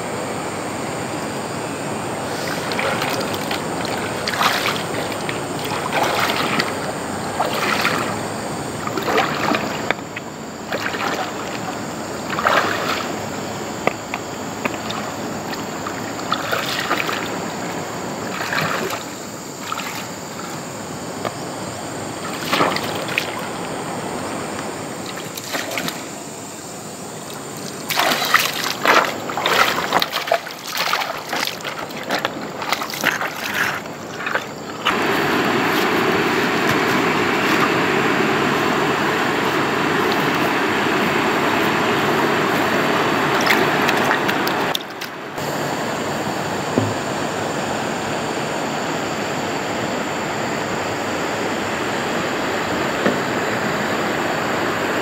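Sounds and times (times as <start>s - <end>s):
steady rushing water: 0.0s - 55.0s
water splashing and sloshing: 1.3s - 55.0s.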